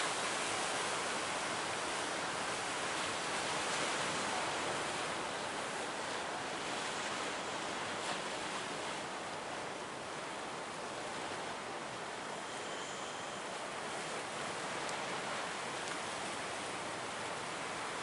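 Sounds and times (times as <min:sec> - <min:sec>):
ocean waves breaking: 0:00.0 - 0:18.0.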